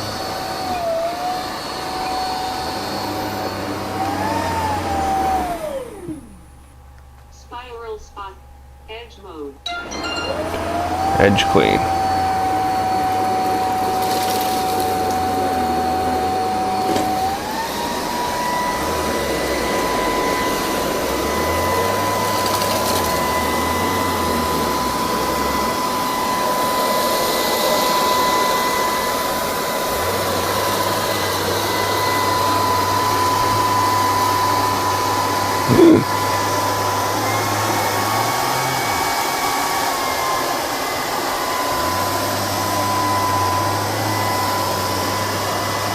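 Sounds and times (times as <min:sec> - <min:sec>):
robot vacuum motor whining: 0:00.0 - 0:06.5, 0:09.8 - 0:45.9.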